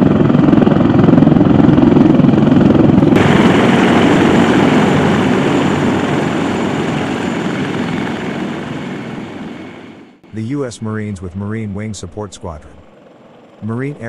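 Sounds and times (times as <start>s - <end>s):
helicopter rotor and turbine: 0.0s - 14.0s.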